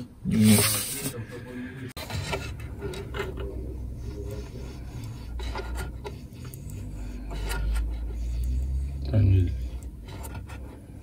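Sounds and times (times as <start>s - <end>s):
scraping and rubbing on plastic: 0.3s - 1.2s, 2.0s - 11.0s.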